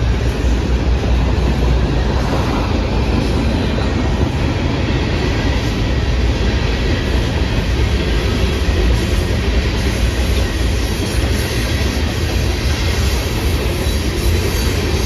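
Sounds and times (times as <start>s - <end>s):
freight train wheels rumbling on track: 0.0s - 15.0s.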